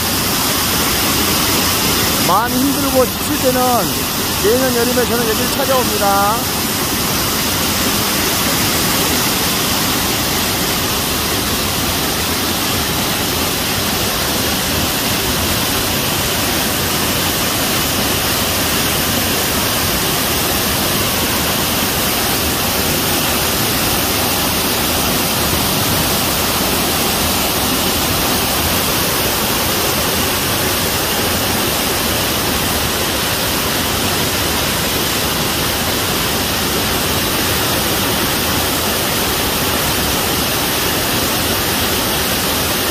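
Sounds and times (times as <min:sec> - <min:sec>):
waterfall rushing over rocks: 0:00.0 - 0:42.9.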